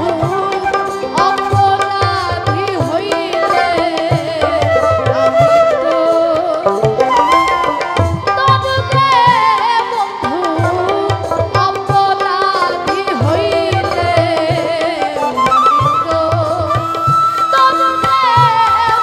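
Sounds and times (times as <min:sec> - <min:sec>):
hand-drum rhythm: 0:00.0 - 0:19.0
held accompanying notes: 0:00.0 - 0:19.0
woman singing into a microphone: 0:00.0 - 0:19.0.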